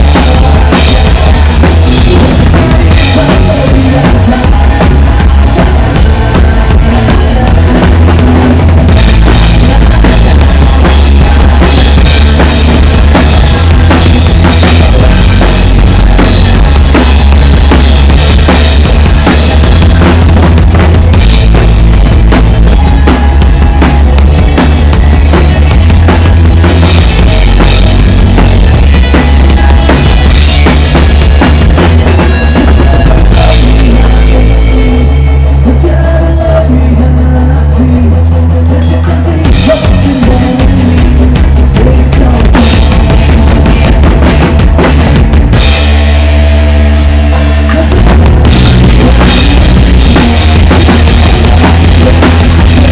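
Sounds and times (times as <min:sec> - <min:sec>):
bass drum and snare hits: 0:00.0 - 0:34.1, 0:39.6 - 0:52.9
heavy bass line: 0:00.0 - 0:52.9
rock band playing live: 0:00.0 - 0:52.9.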